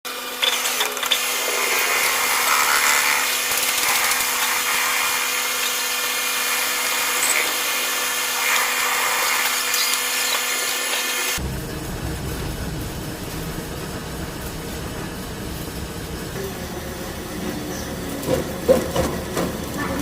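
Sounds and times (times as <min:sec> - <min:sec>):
milling machine cutting metal: 0:00.1 - 0:19.9.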